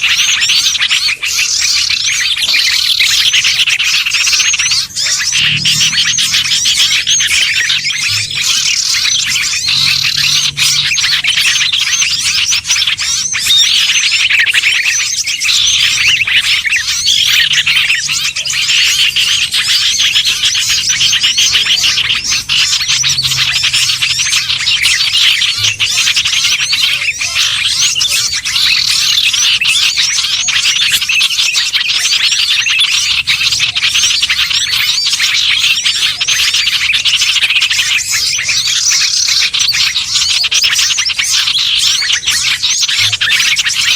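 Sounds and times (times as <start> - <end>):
songbirds twittering: 0.0 - 43.9.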